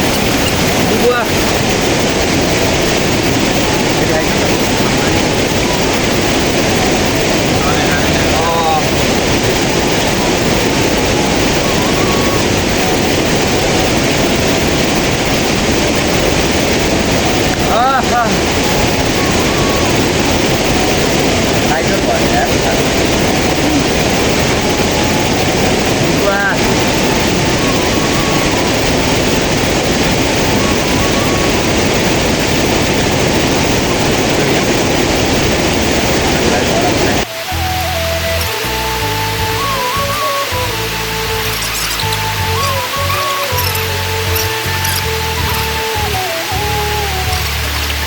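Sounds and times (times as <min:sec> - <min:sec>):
fast-flowing stream rushing: 0:00.0 - 0:48.0.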